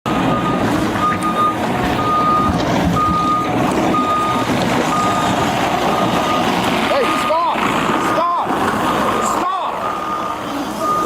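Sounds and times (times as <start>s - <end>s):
engine rumble: 0.1s - 11.0s
vehicle backup alarm beeping: 0.1s - 11.0s.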